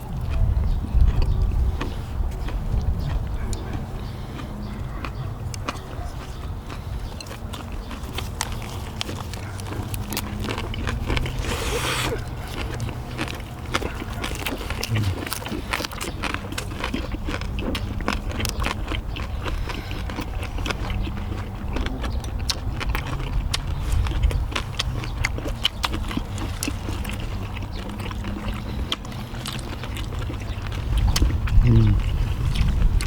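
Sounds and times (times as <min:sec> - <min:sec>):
people chewing and smacking: 0:00.0 - 0:33.0.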